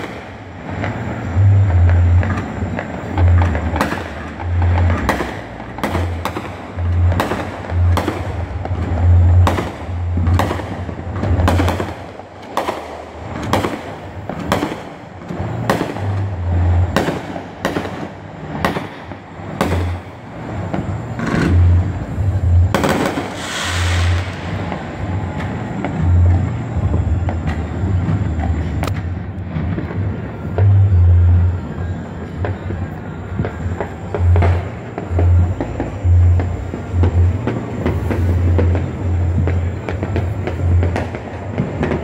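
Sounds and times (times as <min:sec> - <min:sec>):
distant fireworks bangs and crackle: 0:00.0 - 0:42.0
fireworks sharp bangs: 0:00.0 - 0:42.0.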